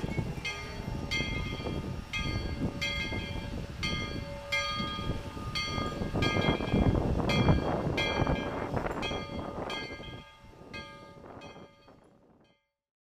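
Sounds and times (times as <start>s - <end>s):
moving train rumbling: 0.0s - 12.6s
locomotive bell ringing: 0.0s - 12.7s.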